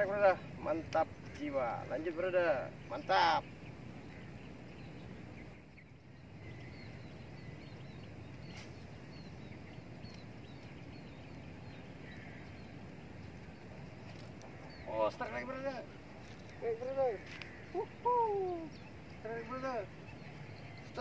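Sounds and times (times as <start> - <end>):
low background rumble: 0.0 - 20.8
small bird chirping: 0.0 - 21.0.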